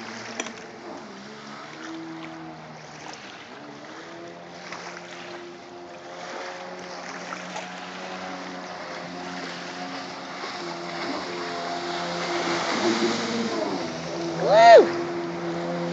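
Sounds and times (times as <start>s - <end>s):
jet ski engine running: 0.0s - 15.9s
wind: 0.0s - 15.9s.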